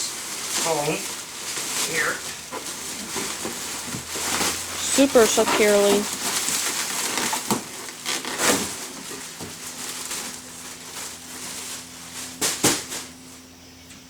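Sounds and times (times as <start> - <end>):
foam and cardboard crackling: 0.0 - 13.4.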